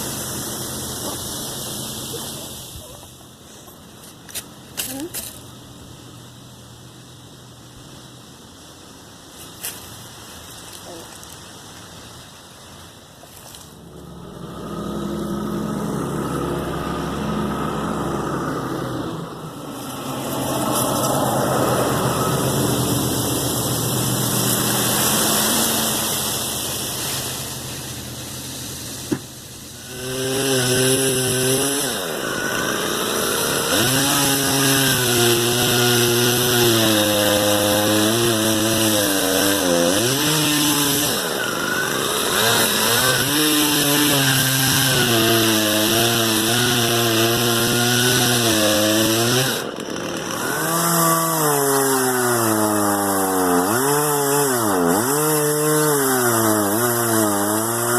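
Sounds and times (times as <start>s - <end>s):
chainsaw cutting wood: 0.0s - 5.5s, 13.4s - 57.9s.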